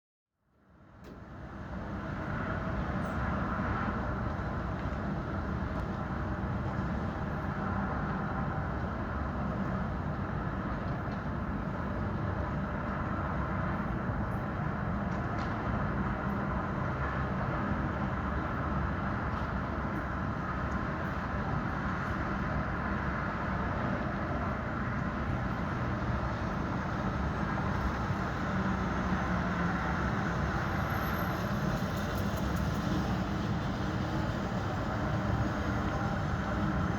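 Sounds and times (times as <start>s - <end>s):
traffic rumble: 0.8s - 36.9s.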